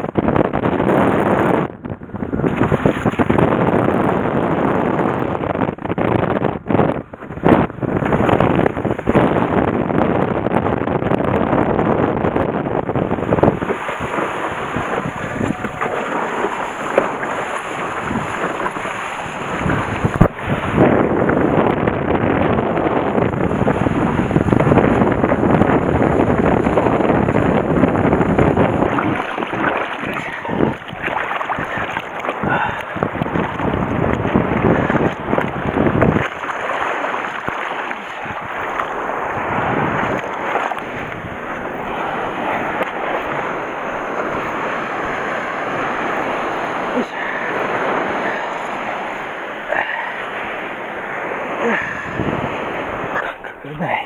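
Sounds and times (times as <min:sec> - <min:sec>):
waves breaking on shore: 0:00.0 - 0:54.0
wind buffeting microphone: 0:00.0 - 0:54.0
water rushing past board: 0:02.1 - 0:09.5, 0:12.4 - 0:53.7.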